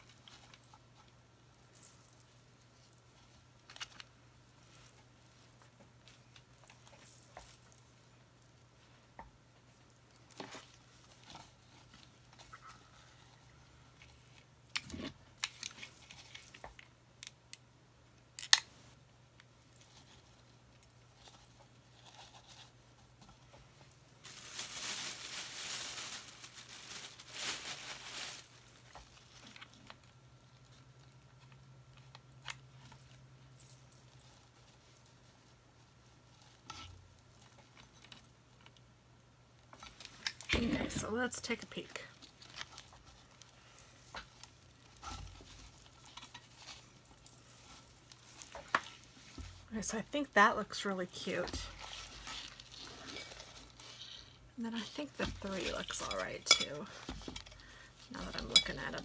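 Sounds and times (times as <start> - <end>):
rustling and crinkling: 0.0 - 17.4, 18.4 - 59.0
faint steady hum: 0.0 - 59.0.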